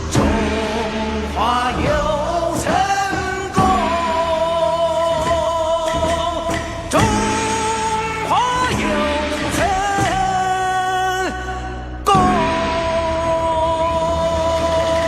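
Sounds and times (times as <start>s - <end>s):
pop song with singing and band: 0.0s - 15.0s.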